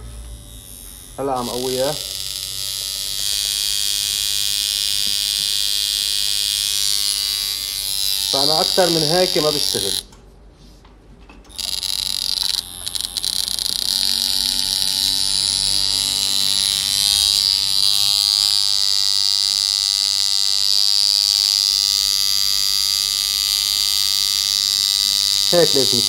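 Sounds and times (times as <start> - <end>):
tattoo machine buzzing: 0.0 - 10.2, 11.4 - 26.0.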